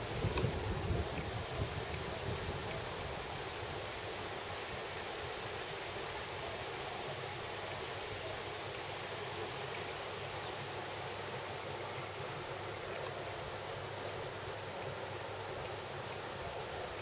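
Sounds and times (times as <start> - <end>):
steady hissing noise: 0.0 - 17.0.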